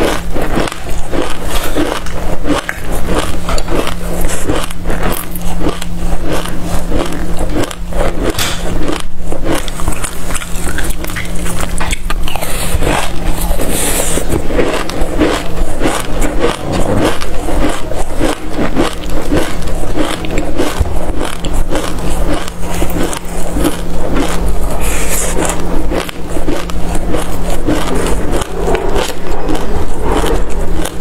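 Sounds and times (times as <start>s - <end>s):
chewing crunchy seeds: 0.0s - 31.0s
steady low hum: 0.0s - 31.0s.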